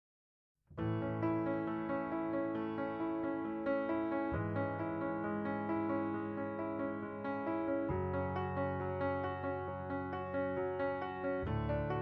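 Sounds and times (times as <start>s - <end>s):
piano with sustained notes: 0.8s - 12.0s.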